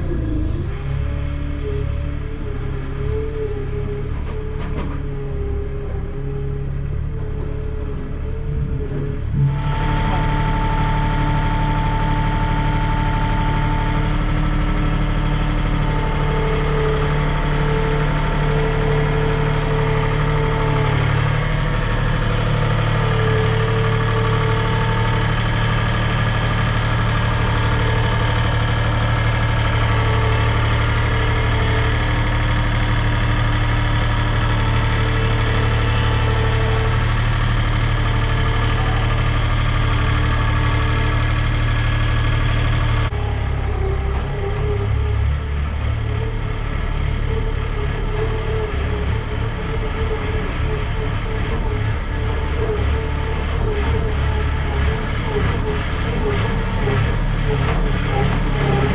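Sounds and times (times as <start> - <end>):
farm machine engine running: 0.0 - 58.9.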